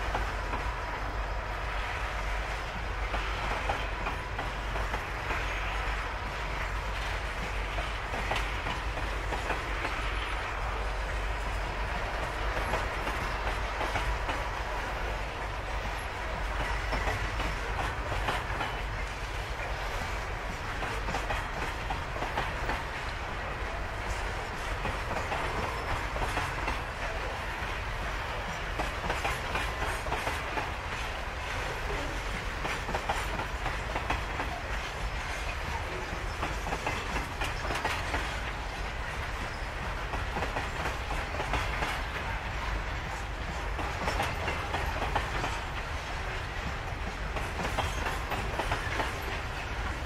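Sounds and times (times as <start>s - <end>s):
freight train rolling past: 0.0s - 50.0s
wheels clacking over rail joints: 1.7s - 50.0s.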